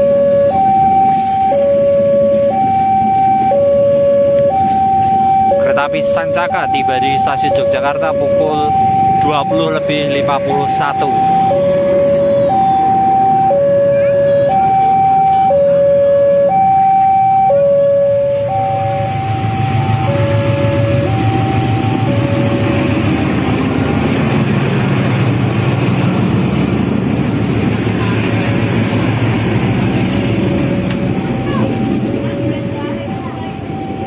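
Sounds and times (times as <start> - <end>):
level-crossing alarm ding-dong: 0.0 - 24.2, 28.0 - 34.0
locomotive engine running: 0.0 - 34.0.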